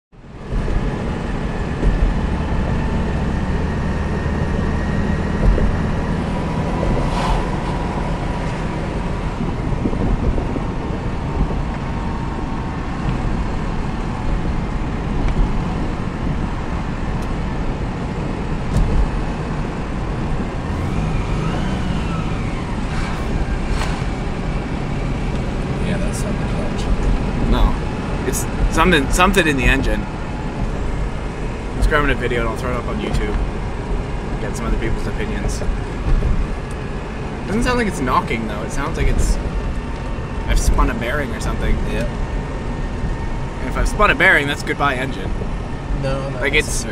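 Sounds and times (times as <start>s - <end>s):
car engine rumbling: 0.2s - 46.9s.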